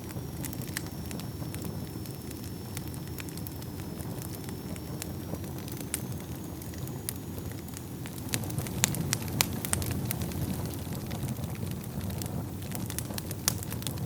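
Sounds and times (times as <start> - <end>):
burning wood crackling and popping: 0.0 - 14.0
low rumble of fire flames: 0.0 - 14.0.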